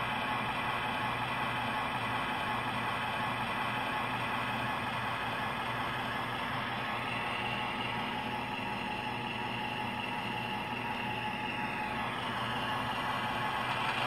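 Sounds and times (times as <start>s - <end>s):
simulated diesel engine idling: 0.0s - 14.0s.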